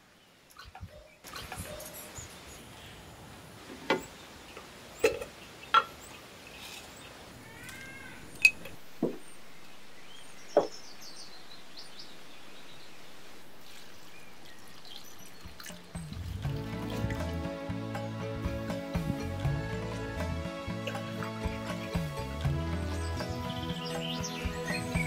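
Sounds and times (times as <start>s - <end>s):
birds chirping: 3.9s - 25.0s.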